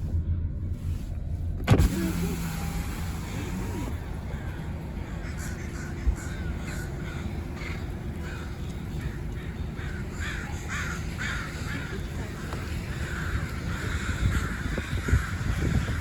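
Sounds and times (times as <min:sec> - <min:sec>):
flock of birds calling: 0:03.1 - 0:16.0.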